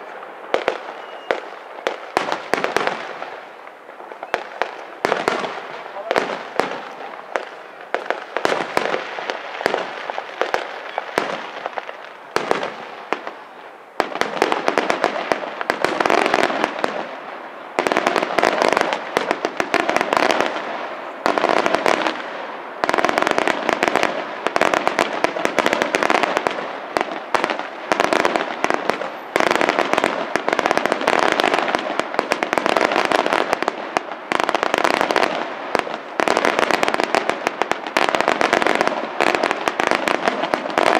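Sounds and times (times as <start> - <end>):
fireworks bangs: 0.0 - 40.9
fireworks crackling: 0.0 - 40.9.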